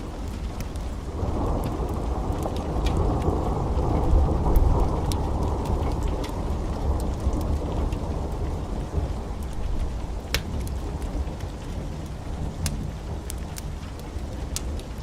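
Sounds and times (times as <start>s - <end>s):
heavy rain: 0.0s - 15.0s
rolling thunder rumble: 0.0s - 15.0s
sharp thunder crackles: 0.0s - 15.0s.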